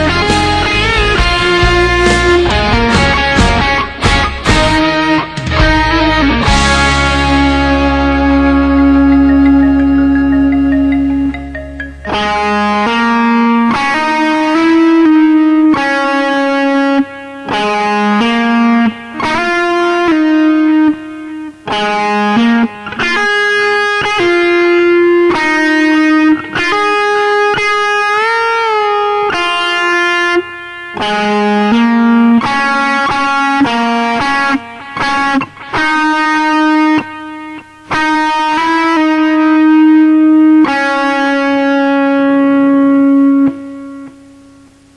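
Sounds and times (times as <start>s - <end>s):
electric guitar lead melody: 0.0s - 44.9s.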